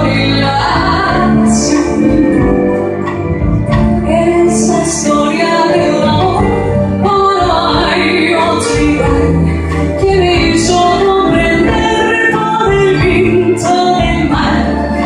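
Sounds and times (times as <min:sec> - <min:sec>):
orchestra playing: 0:00.0 - 0:15.0.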